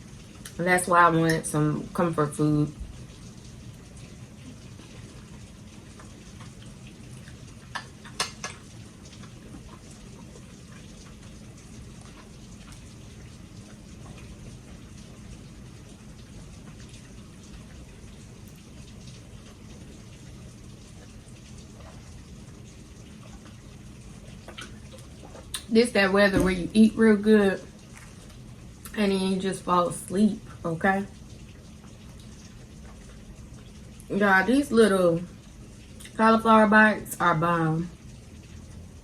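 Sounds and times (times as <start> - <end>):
heavy rain on a window: 0.0 - 39.0
low steady hum: 0.0 - 39.0.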